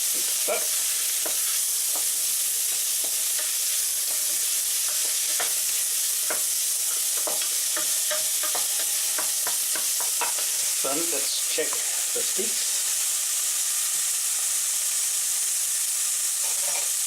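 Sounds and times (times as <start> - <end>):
food sizzling in frying pan: 0.0 - 17.0.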